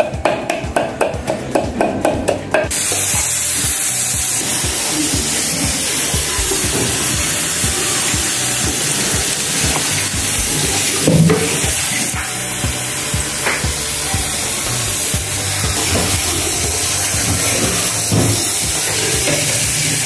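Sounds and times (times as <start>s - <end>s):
oil sizzling in a pot: 2.7s - 20.0s.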